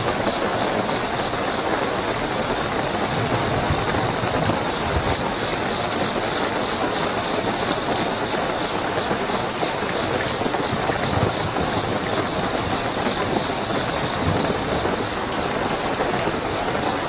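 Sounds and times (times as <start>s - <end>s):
crickets trilling: 0.0s - 17.0s
heavy rain hissing: 0.0s - 17.0s.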